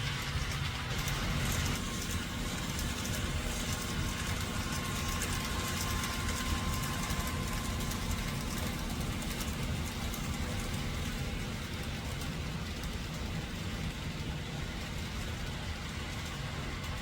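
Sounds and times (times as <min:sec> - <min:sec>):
model train rumbling: 0:00.0 - 0:17.0.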